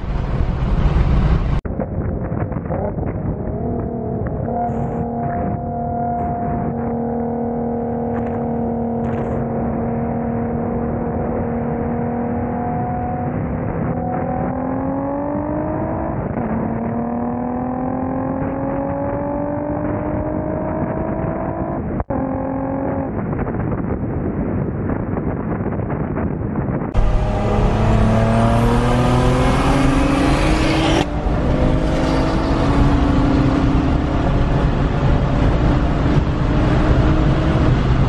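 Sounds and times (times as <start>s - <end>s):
car engine revving: 2.3s - 23.1s, 27.0s - 38.0s.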